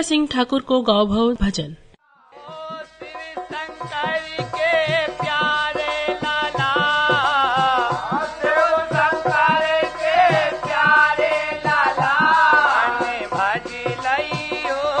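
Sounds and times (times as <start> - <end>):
folk devotional song: 2.0 - 15.0
drum strokes: 2.4 - 15.0.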